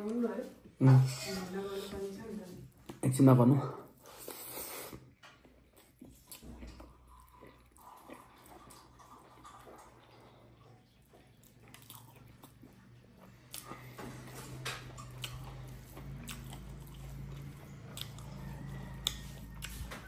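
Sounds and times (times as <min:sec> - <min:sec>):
person chewing food: 0:03.9 - 0:20.0.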